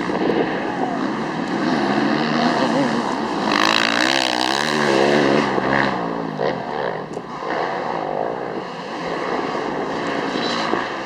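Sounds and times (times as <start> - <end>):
dirt bike engine revving: 0.0 - 10.7
distant dirt bike engines: 0.0 - 11.0.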